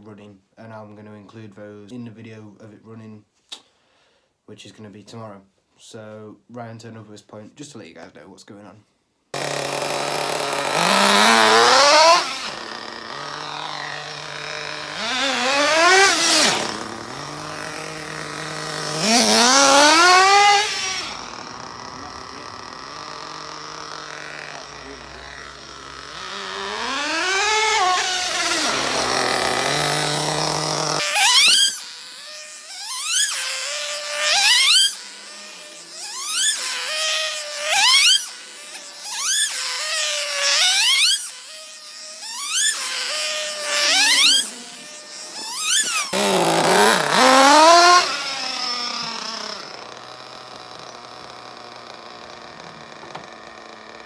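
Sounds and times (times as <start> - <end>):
rc car engine revving: 9.4 - 54.0.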